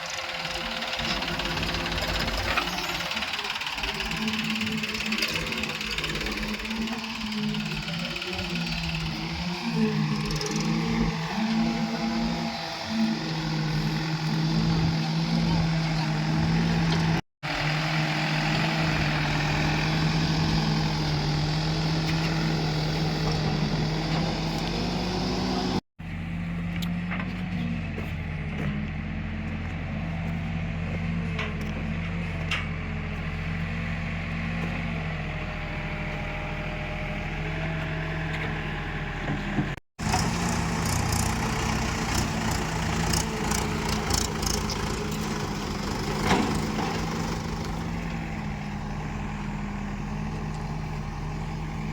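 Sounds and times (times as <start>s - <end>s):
diesel engines running: 0.0s - 51.9s.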